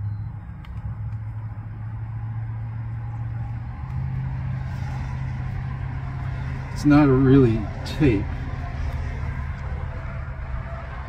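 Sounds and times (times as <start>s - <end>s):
road noise: 0.0s - 11.0s
vehicle engine running: 0.0s - 11.0s.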